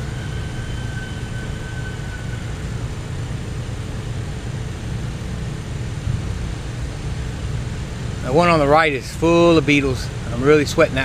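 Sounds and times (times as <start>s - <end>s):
faint high whine: 0.0s - 11.0s
low outdoor rumble: 0.0s - 11.0s.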